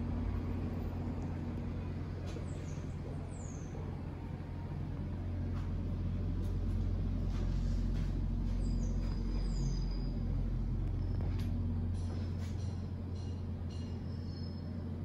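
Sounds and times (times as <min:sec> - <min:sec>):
low rumble: 0:00.0 - 0:13.6.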